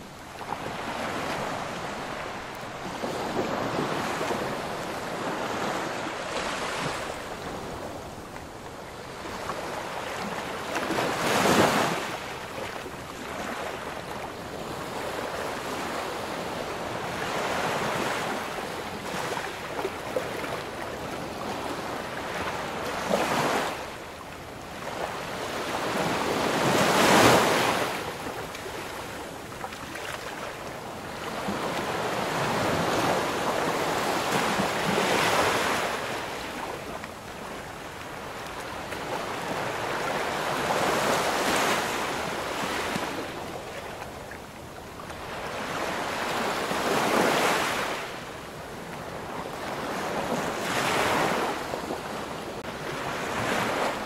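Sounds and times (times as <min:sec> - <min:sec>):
ocean waves breaking: 0:00.0 - 0:24.0, 0:24.6 - 0:54.0.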